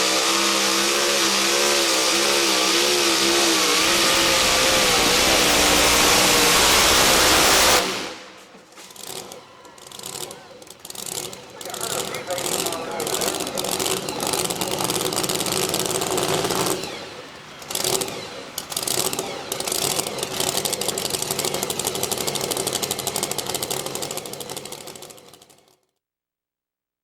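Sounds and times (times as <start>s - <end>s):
crackling exhaust: 0.0s - 25.8s
pulling truck engine at high revs: 0.0s - 25.8s.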